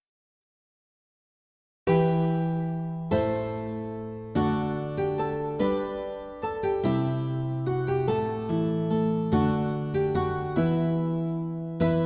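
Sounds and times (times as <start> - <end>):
harpsichord-like keyboard tune: 1.9 - 12.0.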